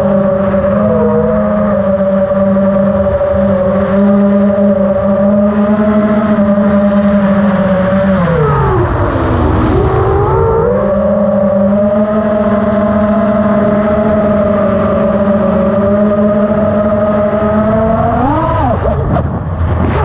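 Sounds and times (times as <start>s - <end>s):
drone motors buzzing whine: 0.0s - 20.0s.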